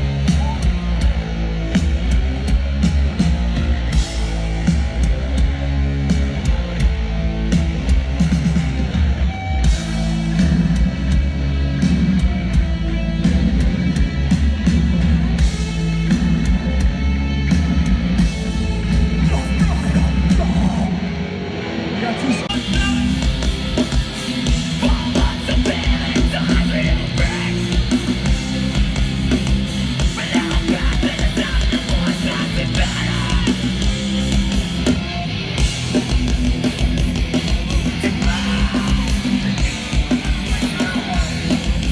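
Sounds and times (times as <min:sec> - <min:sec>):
punk band playing live: 0:00.0 - 0:41.9.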